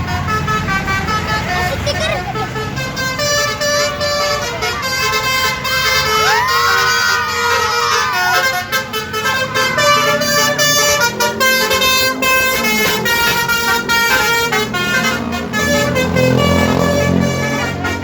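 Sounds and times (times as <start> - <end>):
musical bus air horn: 0.0 - 18.0.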